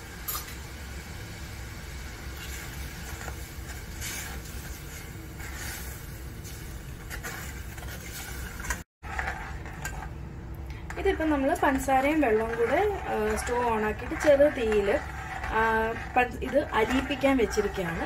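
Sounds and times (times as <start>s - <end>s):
spoon scraping a saucepan: 2.4s - 10.1s, 11.0s - 18.0s.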